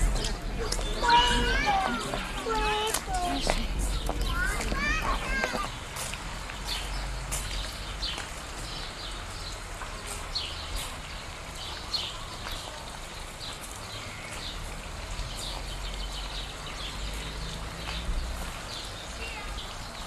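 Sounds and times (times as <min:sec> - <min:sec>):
birds chirping in trees: 0:00.0 - 0:20.0.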